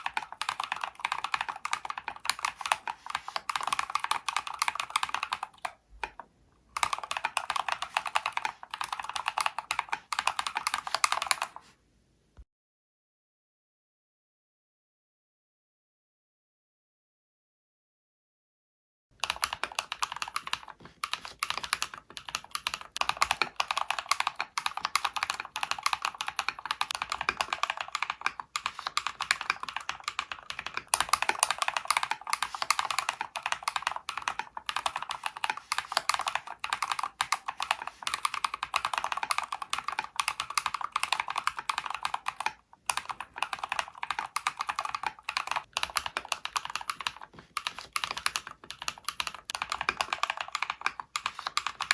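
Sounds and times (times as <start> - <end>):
mechanical keyboard typing: 0.0 - 6.2, 6.8 - 11.6, 19.2 - 51.9.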